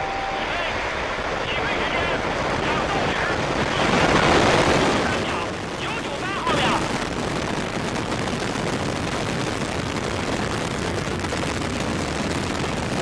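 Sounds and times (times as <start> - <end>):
rocket engines crackling rumble: 0.0 - 13.0.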